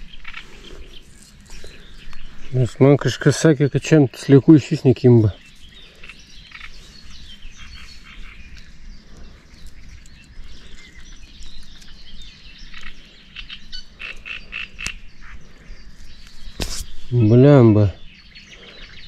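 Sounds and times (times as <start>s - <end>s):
frogs calling: 0.0s - 19.0s
small birds chirping: 0.0s - 19.0s.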